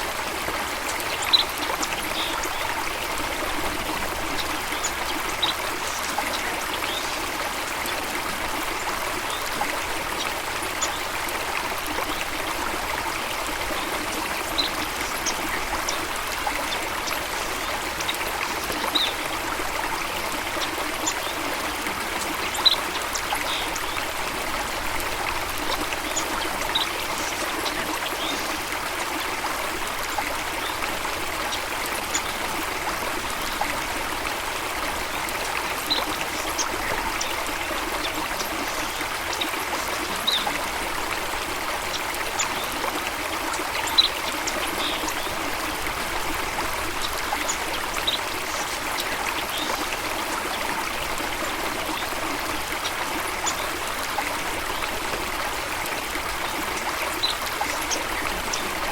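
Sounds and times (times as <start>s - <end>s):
stream rushing: 0.0s - 58.9s.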